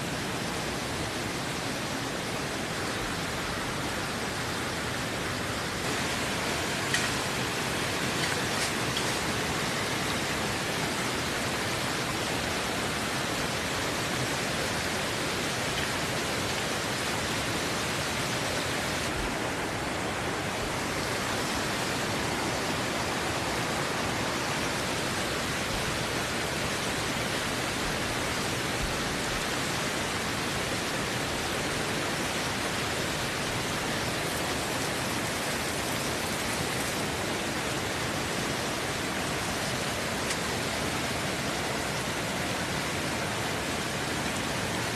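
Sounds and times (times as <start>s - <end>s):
river rushing: 0.0s - 44.9s.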